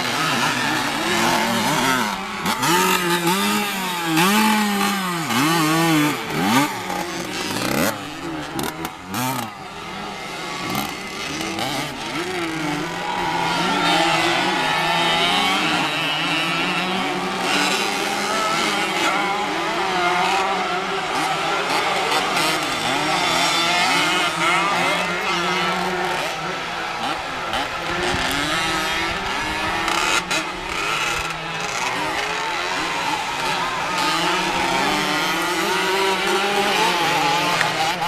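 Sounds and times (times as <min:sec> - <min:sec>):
motocross bikes revving and racing: 0:00.0 - 0:38.0.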